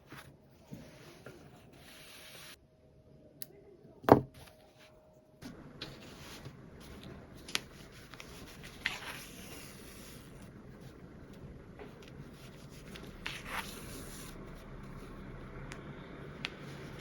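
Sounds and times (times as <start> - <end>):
faint steady hum: 0.1 - 17.0.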